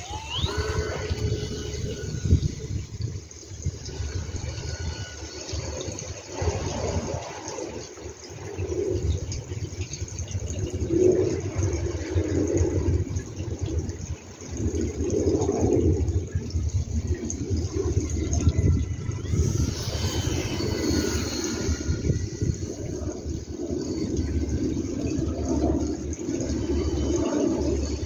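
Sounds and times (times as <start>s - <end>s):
model plane motor whine: 0.0s - 28.0s
wind buffeting microphone: 0.0s - 28.0s.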